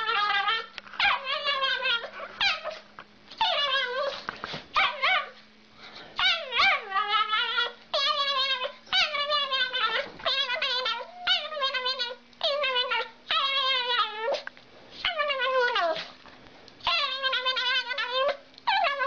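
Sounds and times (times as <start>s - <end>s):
small dog whining and howling: 0.0s - 2.8s, 3.4s - 5.4s, 6.2s - 14.4s, 15.0s - 16.1s, 16.8s - 19.0s.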